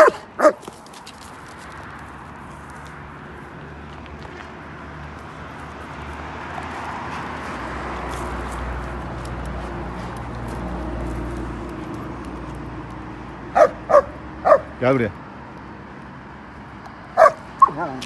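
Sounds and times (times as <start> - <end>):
outdoor rushing noise: 0.0 - 18.0.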